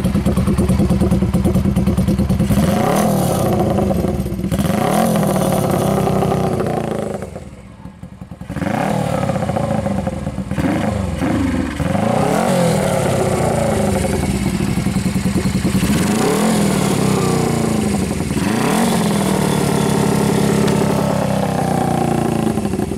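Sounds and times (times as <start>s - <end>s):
motorcycle engine revving and idling: 0.0s - 22.9s.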